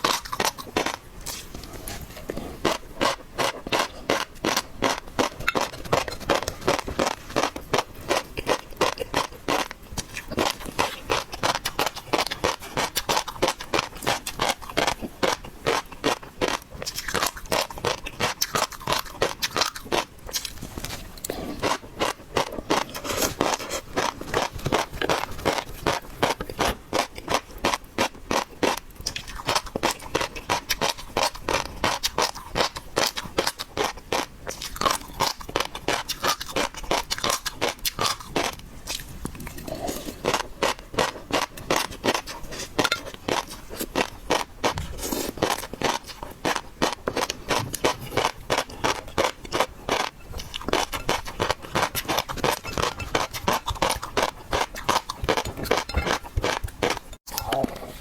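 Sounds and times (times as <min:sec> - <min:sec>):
seafood crackling and crunching: 0:00.0 - 0:58.0.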